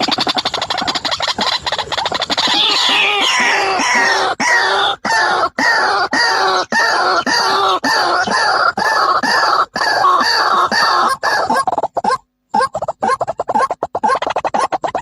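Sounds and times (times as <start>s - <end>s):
waterhens harsh croaking calls: 0.0s - 15.0s.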